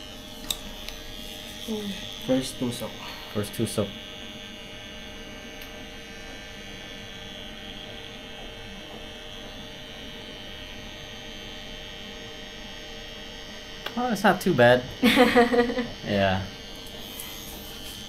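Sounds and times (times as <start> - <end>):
tattoo machine humming: 0.0 - 18.0.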